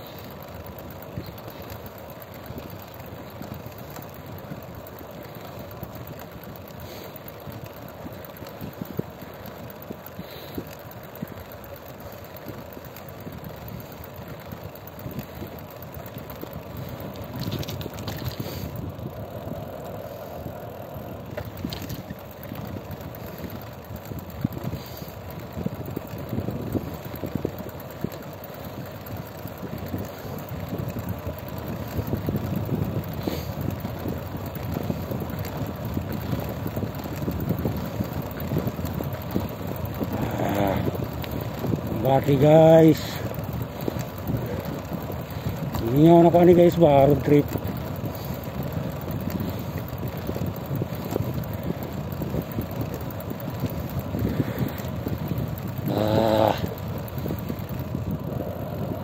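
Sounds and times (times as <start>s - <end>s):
car engine and road noise: 0.0s - 59.0s
wind buffeting microphone: 7.3s - 59.0s.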